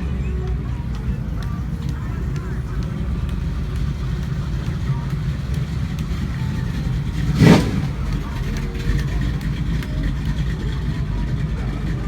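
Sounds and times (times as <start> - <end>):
car engine rumbling and revving: 0.7 - 12.0.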